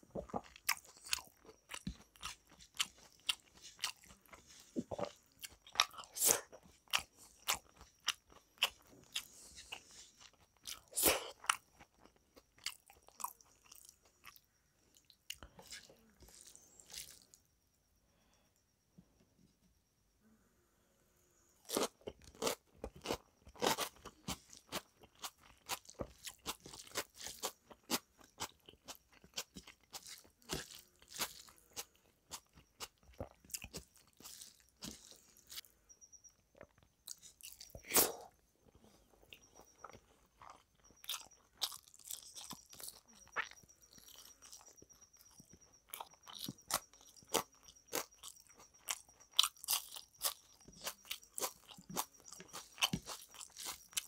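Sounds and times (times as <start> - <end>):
wet chewing: 0.1 - 17.3, 21.7 - 38.3, 39.2 - 54.0
crunching bites of food: 0.2 - 14.4, 15.0 - 17.3, 21.6 - 35.7, 39.3 - 54.0.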